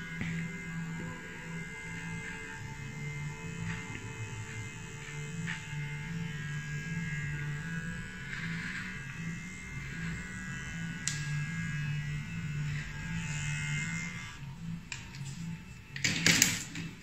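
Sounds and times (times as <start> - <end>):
electric trimmer humming: 0.0 - 17.0.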